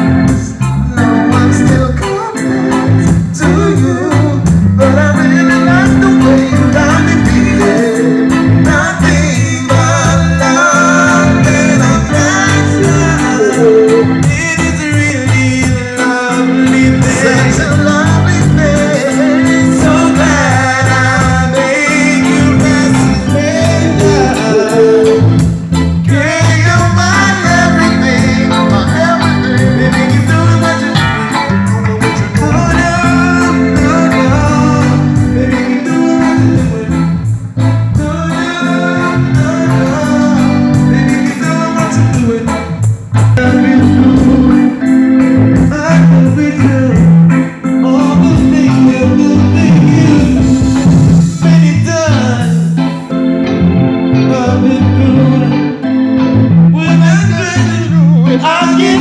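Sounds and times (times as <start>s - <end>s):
live reggae band playing: 0.0s - 59.0s
person singing: 0.0s - 59.0s.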